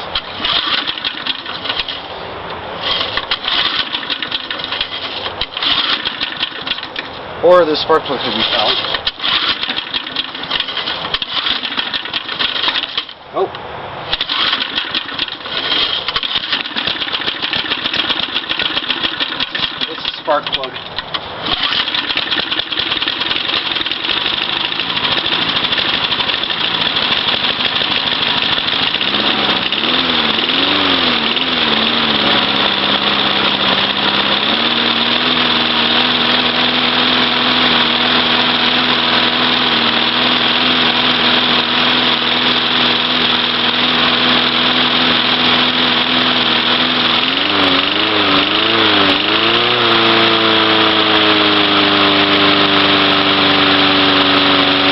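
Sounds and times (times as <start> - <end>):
small engine running: 0.0 - 13.5, 14.1 - 54.9.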